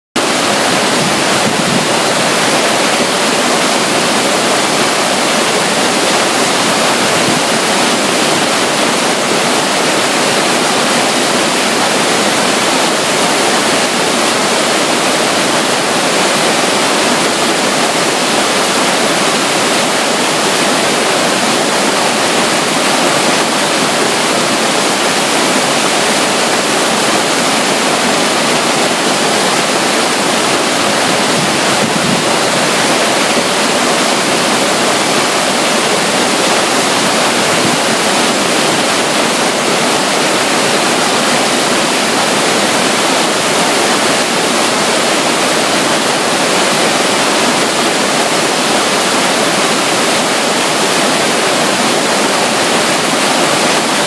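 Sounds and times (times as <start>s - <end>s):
rush of running water: 0.0s - 54.0s.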